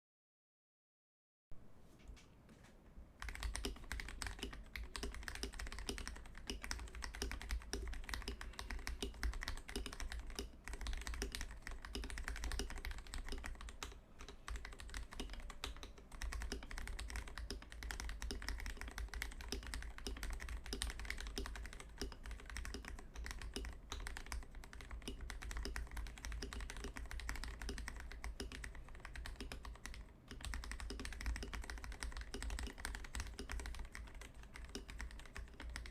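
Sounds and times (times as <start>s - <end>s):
fast typing on mechanical keyboard: 3.2s - 35.9s.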